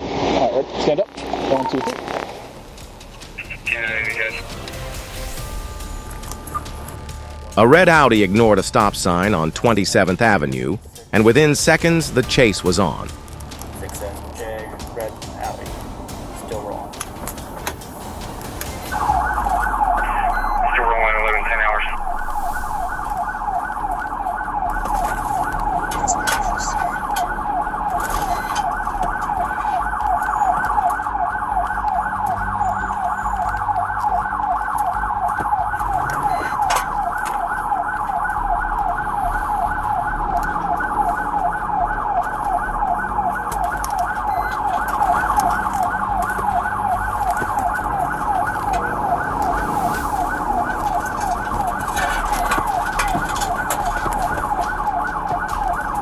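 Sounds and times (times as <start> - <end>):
car engine: 0.0 - 56.0
road noise: 0.0 - 56.0
police siren yelping: 3.4 - 56.0.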